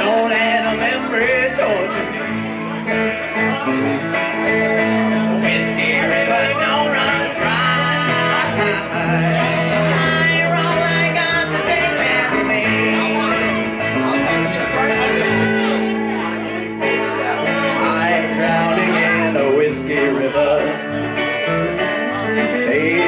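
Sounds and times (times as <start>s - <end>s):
electric guitar: 0.0s - 23.0s
strummed acoustic guitar: 0.0s - 23.0s
upright bass: 0.0s - 23.0s.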